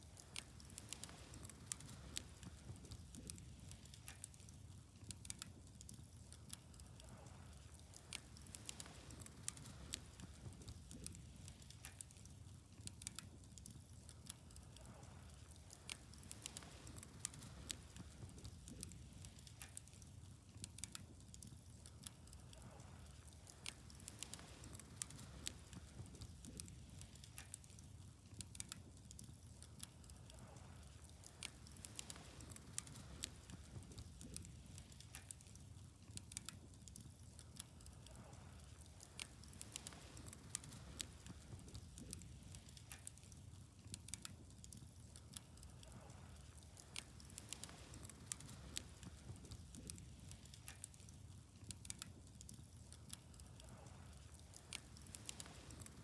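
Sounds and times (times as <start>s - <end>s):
faint wood fire crackling: 0.0s - 56.0s.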